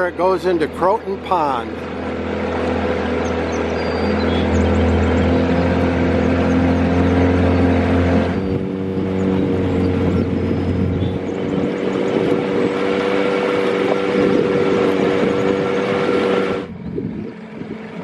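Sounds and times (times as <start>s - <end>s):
boat motor humming: 0.0s - 18.0s
moving boat: 0.0s - 18.0s.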